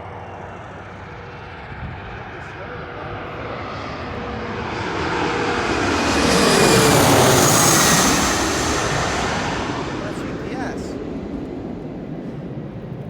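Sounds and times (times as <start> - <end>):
jet airliner roar: 0.0 - 13.0
jet engine high whine: 0.0 - 13.0.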